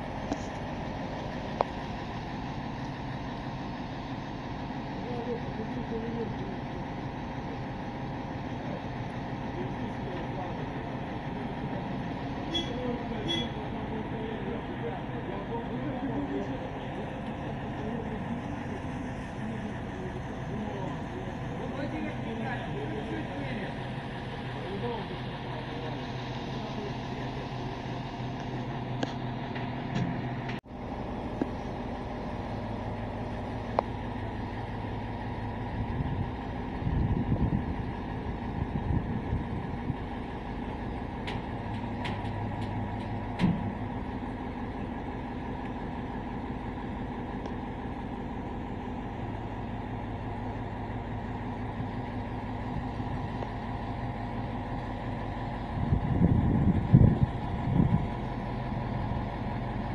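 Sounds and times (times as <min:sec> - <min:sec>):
crane engine running: 0:00.0 - 0:59.9.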